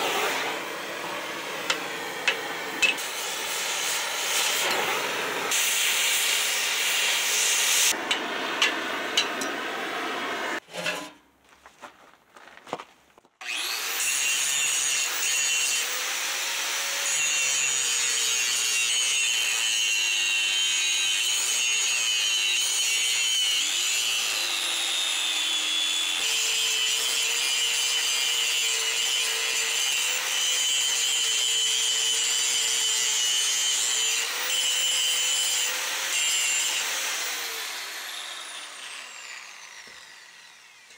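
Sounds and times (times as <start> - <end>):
power grinder grinding metal: 0.0 - 11.2, 13.4 - 40.9.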